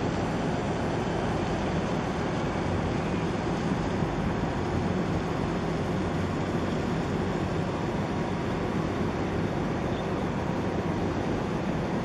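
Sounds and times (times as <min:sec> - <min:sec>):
ship engine rumble: 0:00.0 - 0:12.0
water wash along hull: 0:00.0 - 0:12.0.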